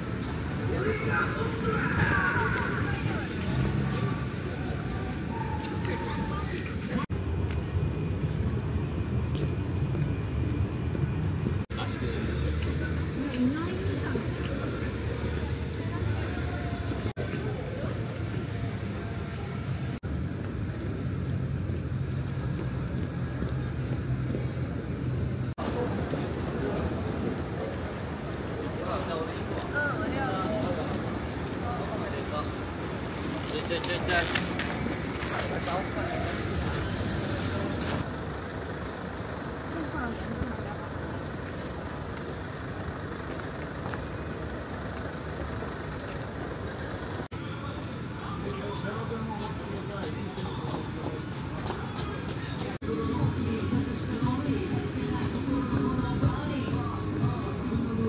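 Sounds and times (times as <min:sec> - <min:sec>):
traffic hum: 0:00.0 - 0:58.0.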